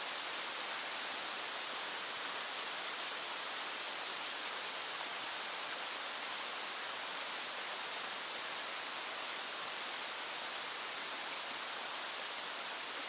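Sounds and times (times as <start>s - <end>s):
small stream flowing: 0.0s - 13.0s.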